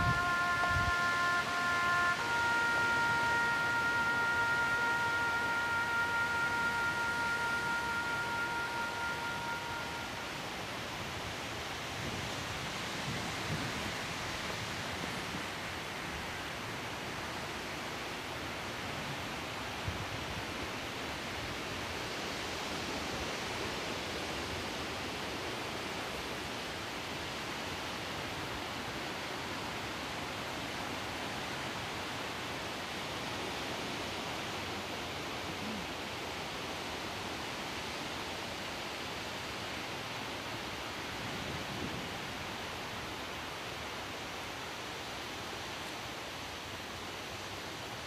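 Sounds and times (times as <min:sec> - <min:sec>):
outdoor background hiss: 0:00.0 - 0:48.0.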